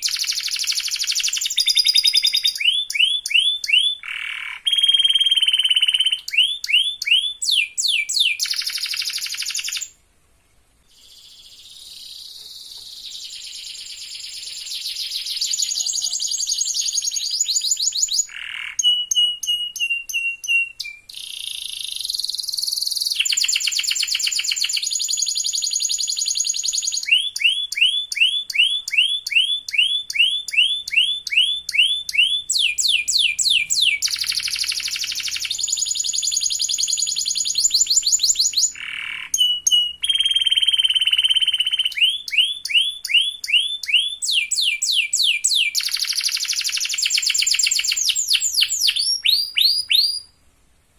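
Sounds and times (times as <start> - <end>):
canary singing: 0.0 - 10.0, 10.8 - 50.4.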